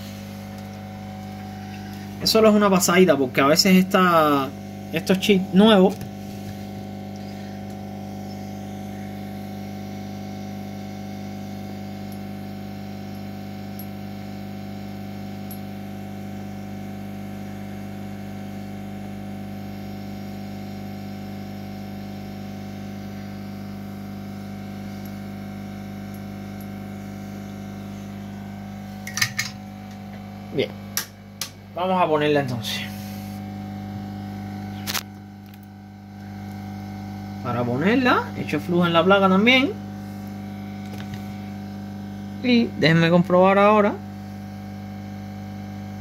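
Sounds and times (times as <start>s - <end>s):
electronic equipment humming: 0.0s - 46.0s.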